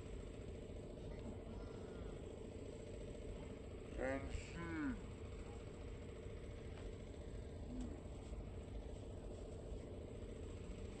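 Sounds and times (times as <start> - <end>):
vehicle engines idling: 0.0 - 11.0.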